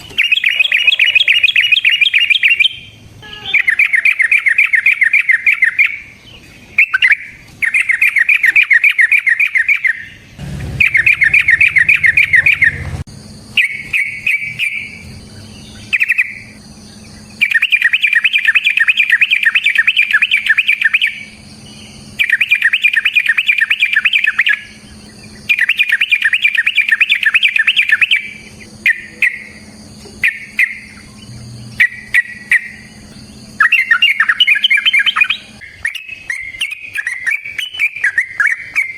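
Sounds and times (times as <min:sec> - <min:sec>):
bird singing rapid chatter: 0:00.0 - 0:38.9
faint steady hum: 0:00.0 - 0:38.9.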